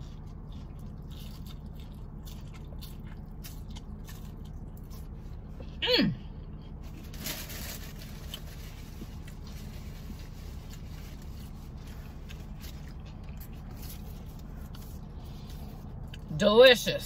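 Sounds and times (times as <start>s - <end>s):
chewing and mouth sounds: 0.0s - 5.8s, 8.2s - 16.4s
steady low hum: 0.0s - 17.0s.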